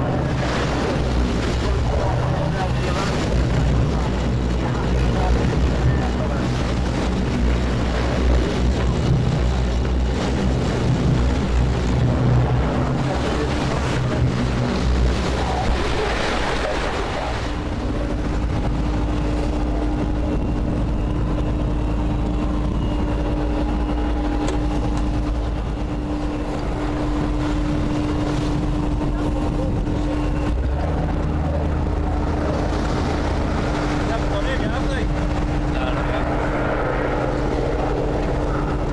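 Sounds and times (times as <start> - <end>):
boat engines running: 0.0 - 38.9
sea noise: 0.0 - 38.9
steady higher hum: 0.0 - 38.9
wind: 0.0 - 38.9.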